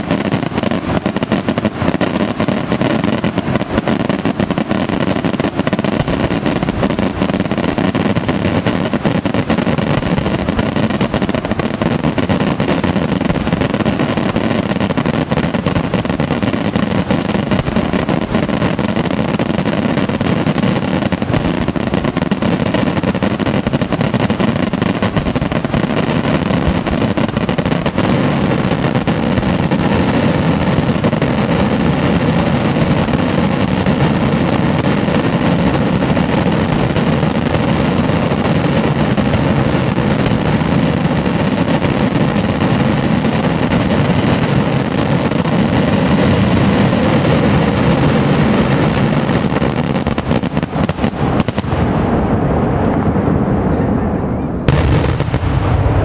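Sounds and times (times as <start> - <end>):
fireworks bursting in a barrage: 0.0 - 56.0.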